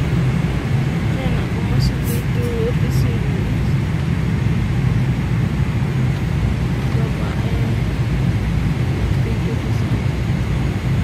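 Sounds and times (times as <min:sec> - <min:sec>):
jet airliner cabin drone: 0:00.0 - 0:11.0.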